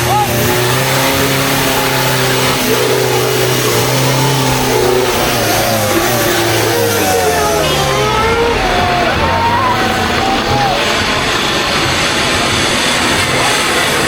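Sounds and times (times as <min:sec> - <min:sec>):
off-road engine revving hard: 0:00.0 - 0:14.0.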